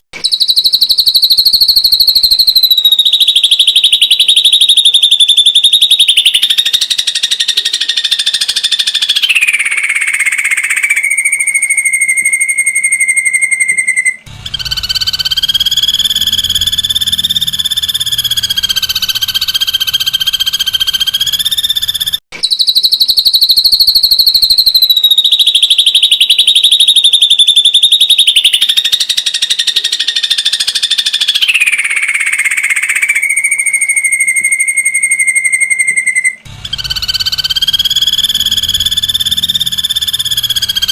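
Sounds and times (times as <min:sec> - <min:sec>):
bird giving rapid trill: 0:00.0 - 0:40.9.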